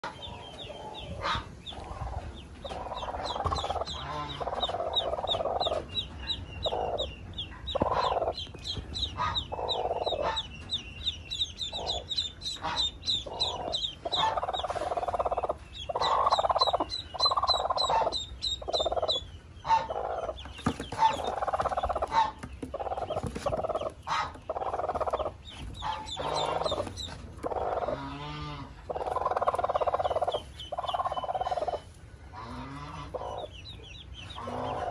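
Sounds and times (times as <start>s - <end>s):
ducklings peeping: 0.0s - 34.9s
hen clucking: 0.0s - 34.9s.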